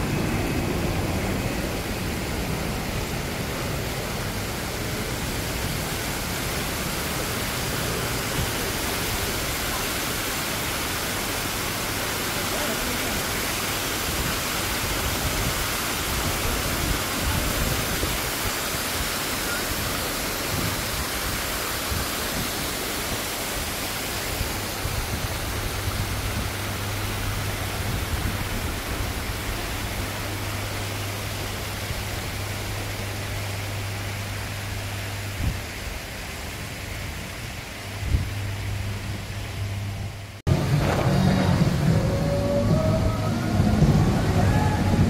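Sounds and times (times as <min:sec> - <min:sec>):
running water splashing: 0:00.0 - 0:45.0.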